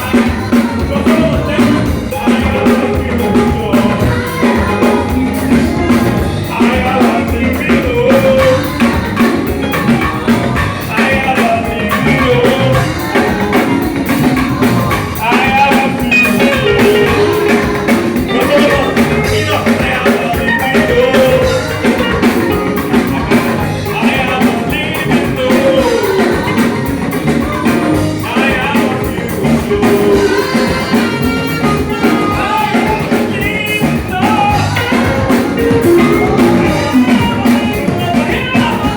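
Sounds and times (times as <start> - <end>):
drum kit: 0.0 - 38.9
guitar: 0.0 - 38.9
sliding bending melody line: 0.0 - 38.9.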